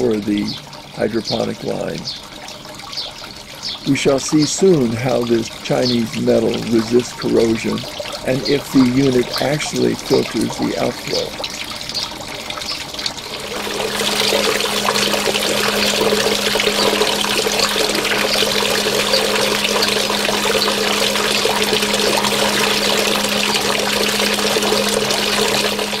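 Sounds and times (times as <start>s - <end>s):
steady low hum: 0.0s - 26.0s
water pouring and splashing: 0.0s - 26.0s.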